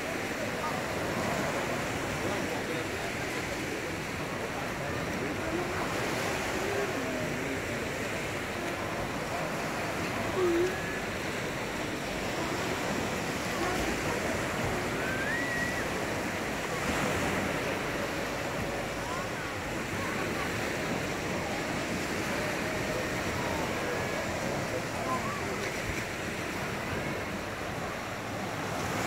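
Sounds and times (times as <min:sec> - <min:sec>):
faint voices: 0:00.0 - 0:29.0
small waves washing onto beach: 0:00.0 - 0:29.0.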